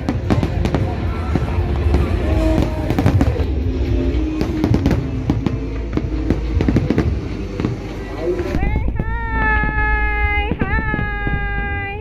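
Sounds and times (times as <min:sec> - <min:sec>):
music playing: 0:00.0 - 0:11.4
fireworks bangs and crackles: 0:00.0 - 0:12.0.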